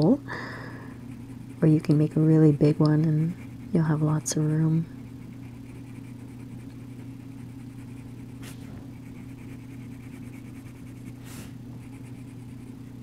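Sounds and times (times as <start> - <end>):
pencil scratching on paper: 1.0 - 13.0.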